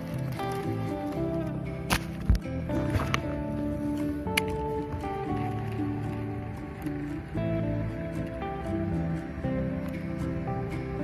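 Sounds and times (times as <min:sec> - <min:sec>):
plucked guitar melody: 0:00.0 - 0:11.0.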